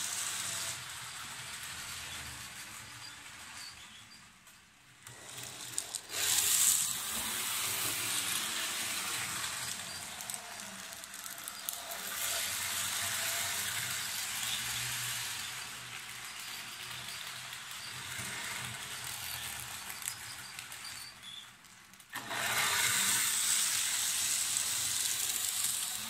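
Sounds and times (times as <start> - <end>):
model locomotive whirring: 0.0 - 26.0.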